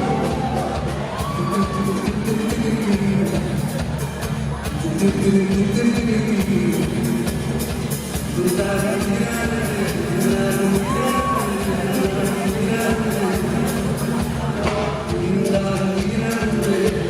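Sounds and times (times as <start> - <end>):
live pop band playing: 0.0 - 17.0
person singing: 0.0 - 17.0.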